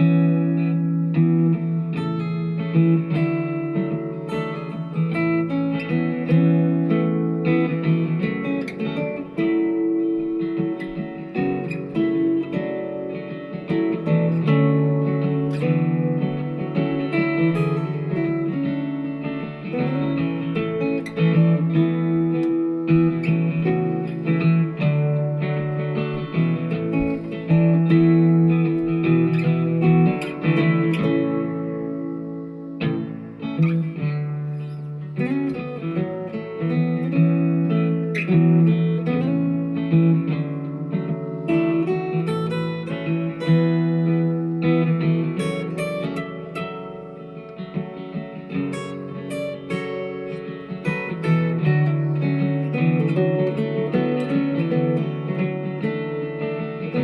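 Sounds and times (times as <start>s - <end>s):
guitar plucking notes and chords: 0.0s - 57.0s.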